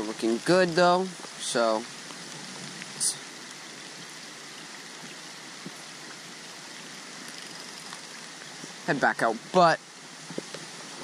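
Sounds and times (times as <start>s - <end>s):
heavy rain on stream: 0.0s - 11.0s.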